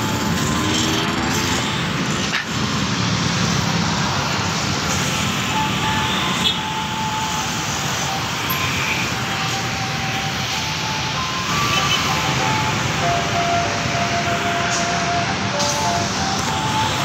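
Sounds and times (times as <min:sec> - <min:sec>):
dense city road traffic roar: 0:00.0 - 0:17.0.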